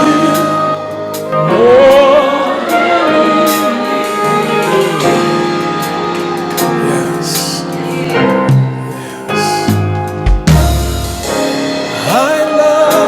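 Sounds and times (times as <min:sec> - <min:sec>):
sustained keyboard chords: 0:00.0 - 0:13.0.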